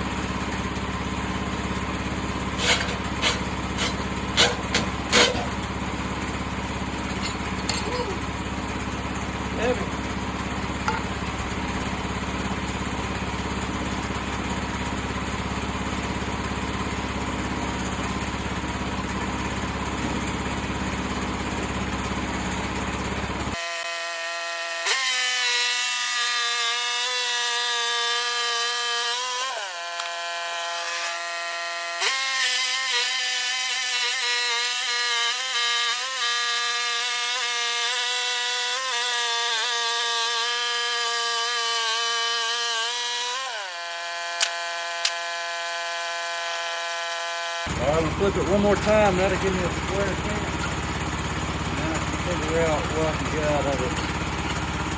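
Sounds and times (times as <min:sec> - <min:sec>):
sawmill sawing log: 0:00.0 - 0:54.9.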